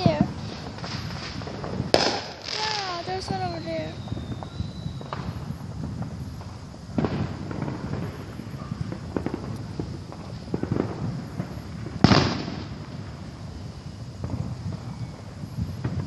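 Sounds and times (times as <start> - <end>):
firecrackers popping: 0.0 - 16.0
fireworks bangs: 0.0 - 16.0.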